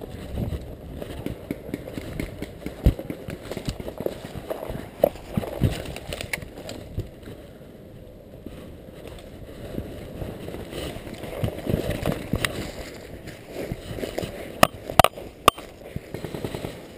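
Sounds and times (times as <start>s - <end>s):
rustling of brush and clothing: 0.0s - 16.9s.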